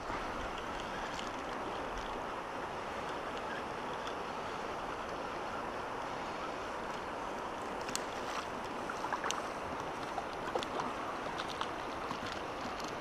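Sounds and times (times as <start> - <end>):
river current rushing and rippling: 0.0 - 13.0.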